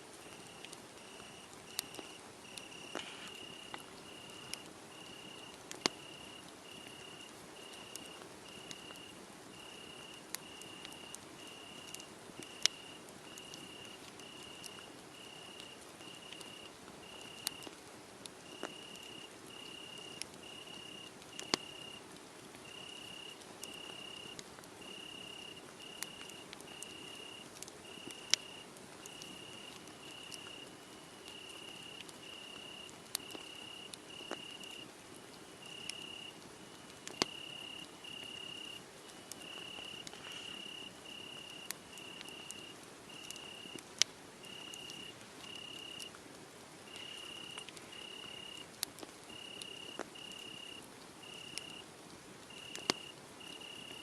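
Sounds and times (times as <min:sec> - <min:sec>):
wood fire crackling and popping: 0:00.1 - 0:54.0
crickets chirping: 0:00.3 - 0:17.7, 0:18.5 - 0:22.0, 0:22.6 - 0:34.9, 0:35.5 - 0:43.8, 0:44.4 - 0:46.2, 0:46.9 - 0:48.7, 0:49.3 - 0:51.8, 0:52.5 - 0:54.0.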